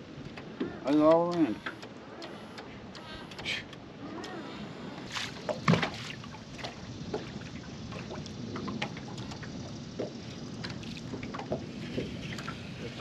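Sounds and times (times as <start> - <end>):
water lapping against boat: 0.0 - 13.0.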